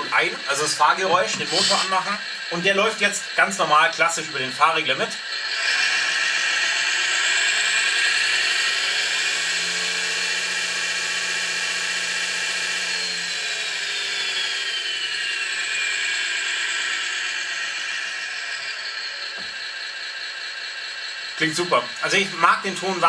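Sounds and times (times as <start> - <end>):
electric motor whine: 0.0 - 23.0
simulated diesel engine sound: 0.0 - 23.0.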